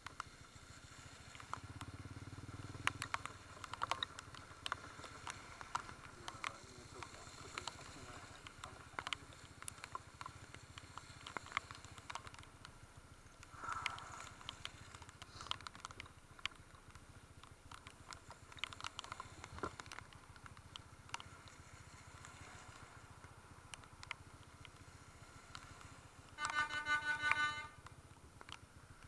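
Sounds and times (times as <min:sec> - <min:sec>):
motorcycle engine running: 0:00.0 - 0:29.0
raindrops ticking on microphone: 0:00.0 - 0:29.0.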